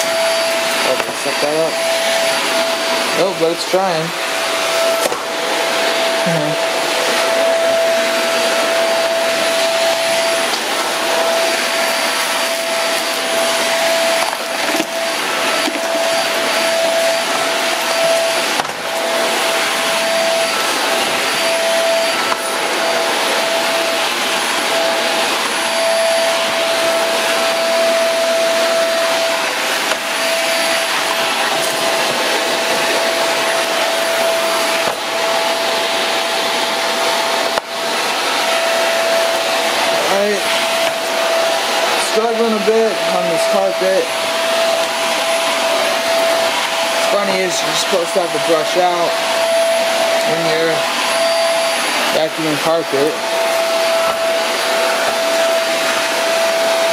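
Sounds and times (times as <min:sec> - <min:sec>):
stick vacuum running: 0:00.0 - 0:56.9.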